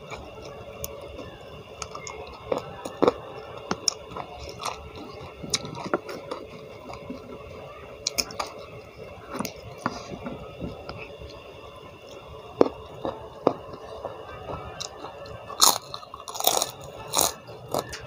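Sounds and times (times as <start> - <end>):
chewing and wet mouth sounds: 0.0 - 18.0.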